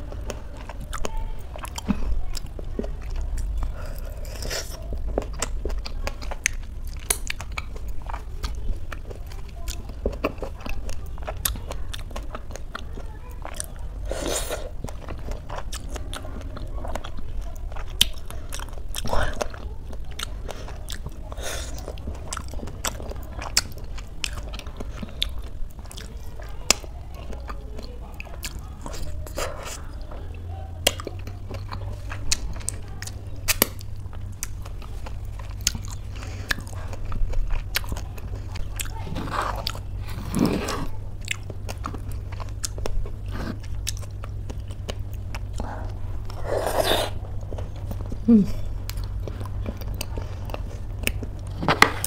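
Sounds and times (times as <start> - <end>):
food crunches: 0.0 - 30.2, 30.8 - 52.0
person chewing with mouth clicks: 0.0 - 52.0.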